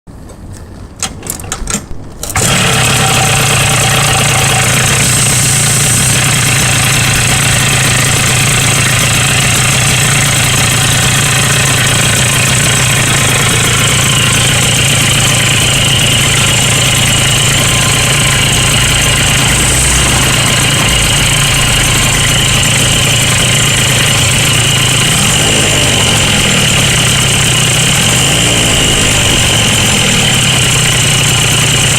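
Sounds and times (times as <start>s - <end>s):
scooter engine cranking: 1.0s - 31.9s
scooter engine idling: 2.4s - 31.9s.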